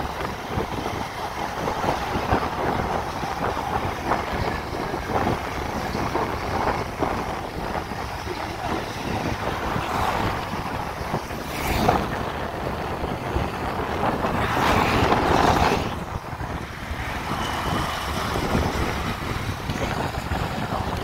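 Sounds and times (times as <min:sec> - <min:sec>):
vehicle road and engine noise: 0:00.0 - 0:21.0
wind rushing over microphone: 0:00.0 - 0:21.0.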